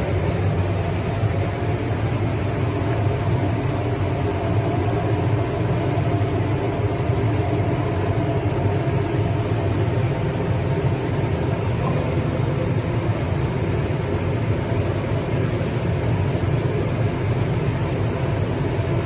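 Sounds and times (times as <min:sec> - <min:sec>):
fan-like rushing noise: 0:00.0 - 0:19.0
machine hum: 0:00.0 - 0:19.0.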